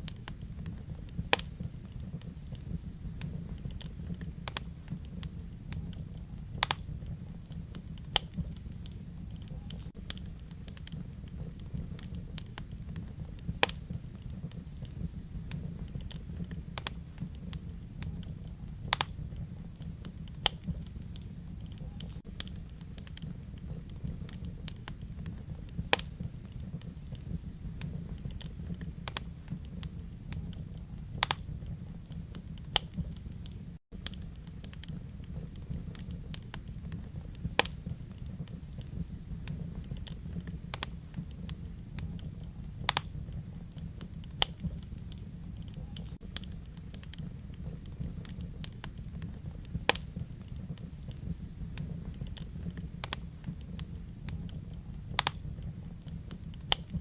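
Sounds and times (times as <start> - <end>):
low rumble of flames: 0.0 - 57.0
sharp pops of fire: 0.0 - 57.0
wood fire crackling: 0.0 - 57.0.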